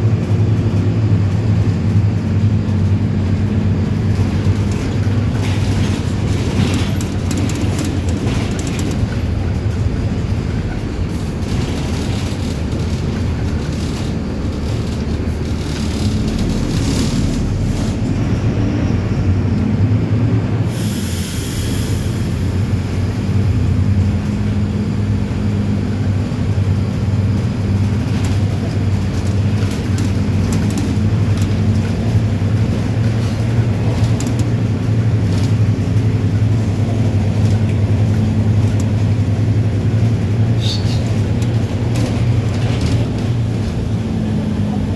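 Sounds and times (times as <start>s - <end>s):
diesel bus engine running: 0.0s - 44.9s.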